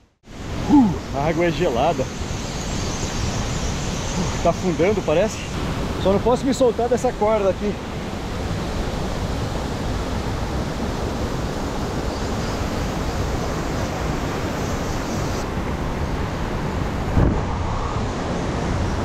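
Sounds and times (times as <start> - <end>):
river current rushing: 0.3 - 19.0.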